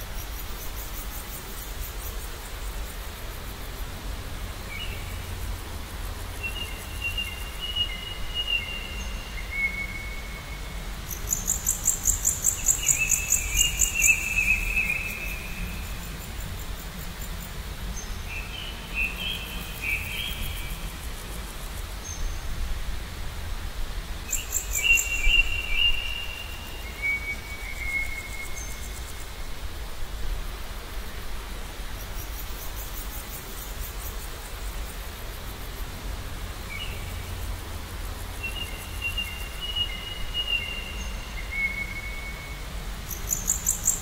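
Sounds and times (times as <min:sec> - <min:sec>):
low rumble and hiss: 0:00.0 - 0:44.0.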